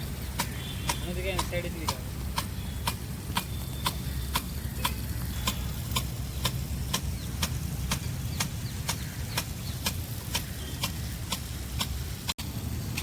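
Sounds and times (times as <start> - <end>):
sharp clicks: 0.4 - 12.0.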